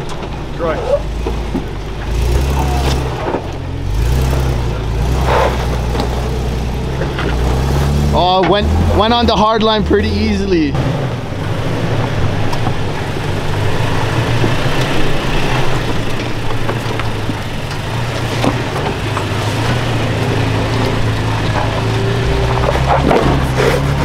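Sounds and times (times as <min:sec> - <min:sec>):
truck engine running at low revs: 0:00.0 - 0:24.0
tyres crunching on rock and gravel: 0:00.0 - 0:24.0.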